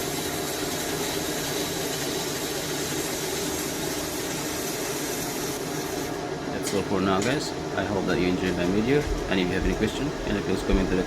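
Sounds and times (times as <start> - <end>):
welding machine cooling fan whir: 0.0 - 11.0.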